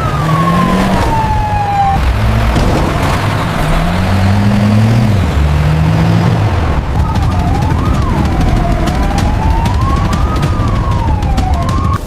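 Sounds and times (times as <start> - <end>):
engine revving: 0.0 - 11.4
road noise: 0.0 - 12.0
siren wailing: 0.0 - 12.0
vehicle engines driving: 0.0 - 12.0.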